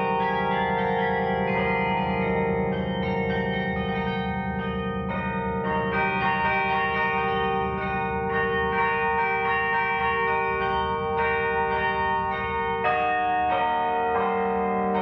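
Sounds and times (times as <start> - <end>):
carillon bells melody: 0.0 - 15.0
held low bell: 0.0 - 15.0.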